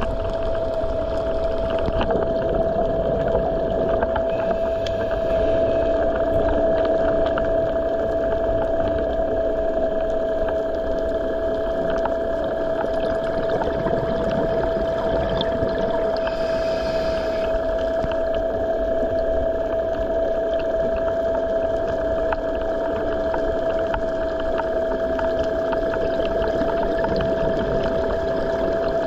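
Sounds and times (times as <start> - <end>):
steady underwater hum: 0.0 - 29.0.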